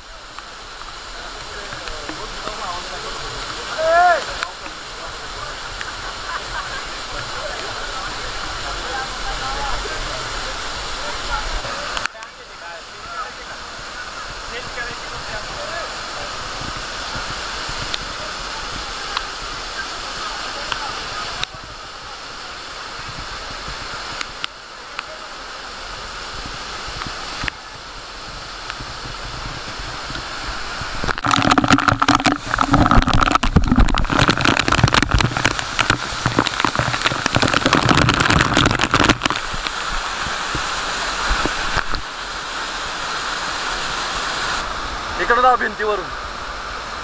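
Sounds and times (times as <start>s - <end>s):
waterfall rushing water: 0.0s - 47.0s.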